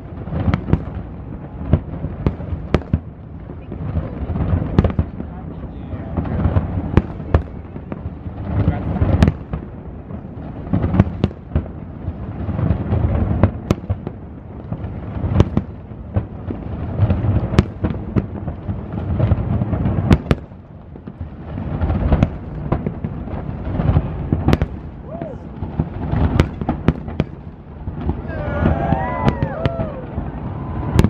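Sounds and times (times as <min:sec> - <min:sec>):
fireworks booming: 0:00.0 - 0:31.0
sharp firework cracks: 0:00.0 - 0:31.0.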